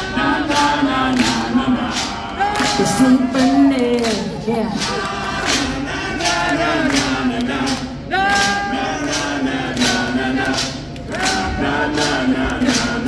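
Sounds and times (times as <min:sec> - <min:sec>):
person singing: 0:00.0 - 0:13.0
steady beat of sharp hits: 0:00.0 - 0:13.0.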